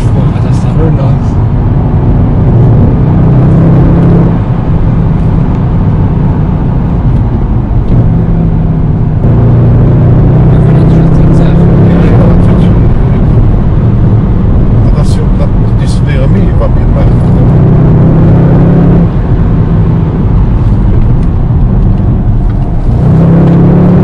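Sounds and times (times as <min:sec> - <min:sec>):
car engine low drone: 0:00.0 - 0:24.0.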